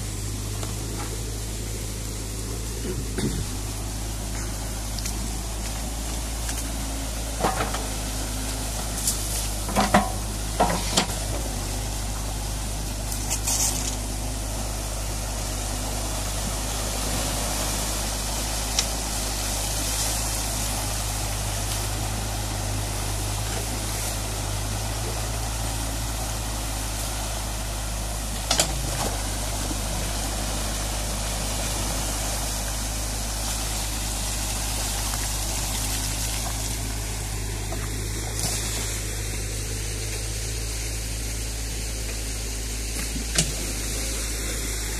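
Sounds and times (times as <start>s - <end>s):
excavator engine humming: 0.0s - 44.9s
water rushing through a dam: 3.0s - 44.9s.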